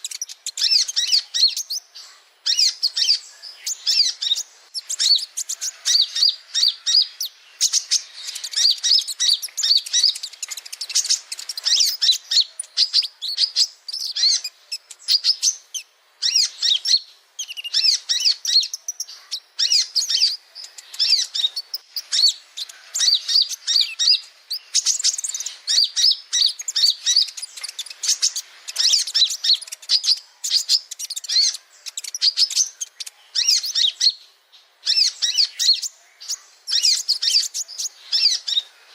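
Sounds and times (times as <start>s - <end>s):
bird singing rapid high chirps: 0.0s - 38.7s.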